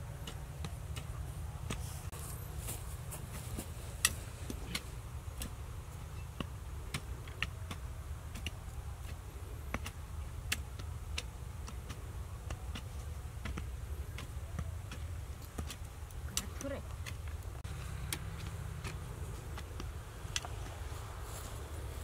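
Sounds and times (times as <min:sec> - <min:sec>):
steady low rumble: 0:00.0 - 0:22.0
hoe chopping into dry soil: 0:03.2 - 0:21.2.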